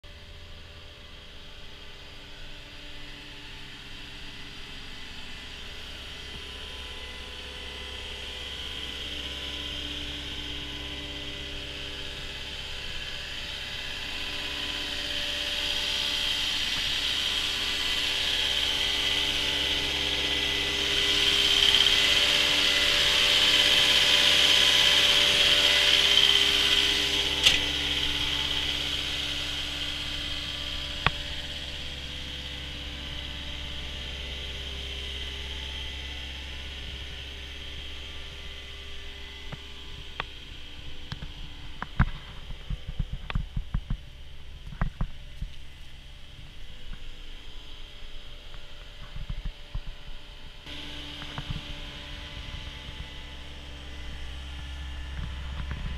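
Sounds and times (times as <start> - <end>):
diesel engine idling with fan: 0.0 - 55.9.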